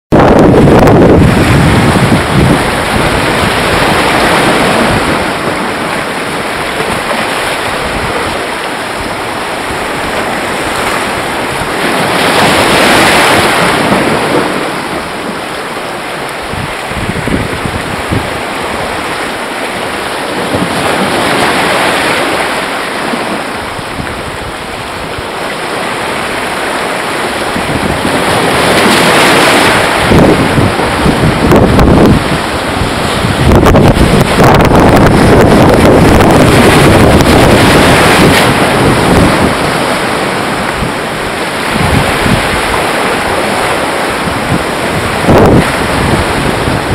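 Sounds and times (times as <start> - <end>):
surf washing over rocks: 0.1 - 46.9
wind buffeting microphone: 0.1 - 46.9.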